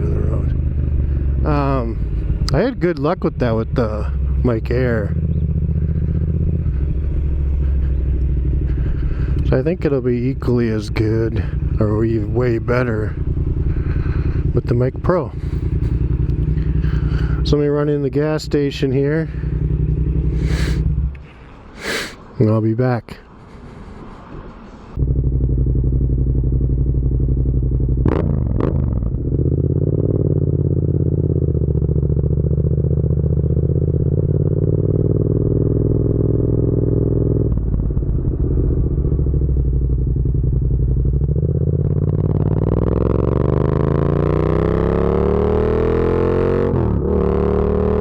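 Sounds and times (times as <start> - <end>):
motorcycle engine running: 0.0 - 21.4, 25.0 - 48.0.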